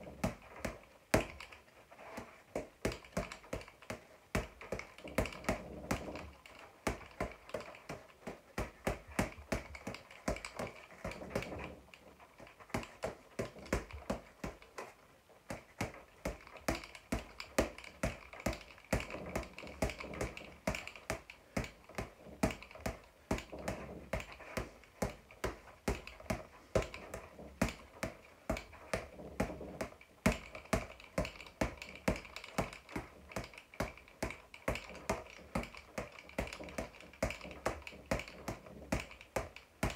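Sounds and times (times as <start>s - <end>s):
boxing gloves smacking a ball: 0.0s - 39.9s.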